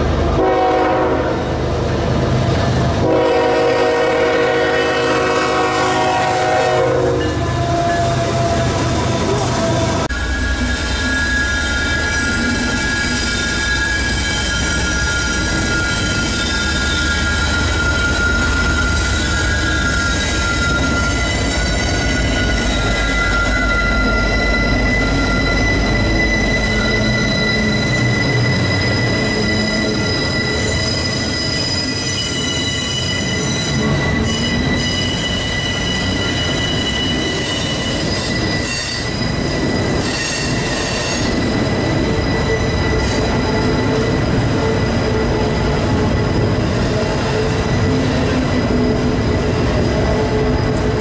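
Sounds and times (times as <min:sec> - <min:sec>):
train rolling roar: 0:00.0 - 0:51.0
steel wheels squealing on rails: 0:02.5 - 0:51.0.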